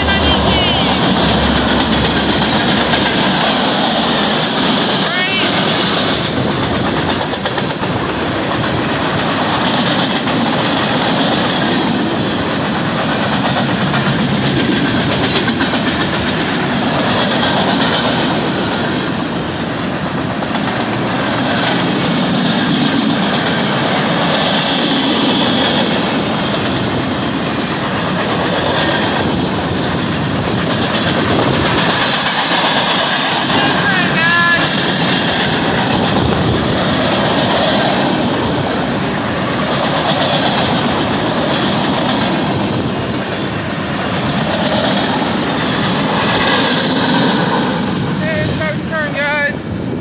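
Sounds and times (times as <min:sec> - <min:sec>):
wheels clacking over rail joints: 0:00.0 - 0:48.2
freight train rumbling past: 0:00.0 - 0:50.0.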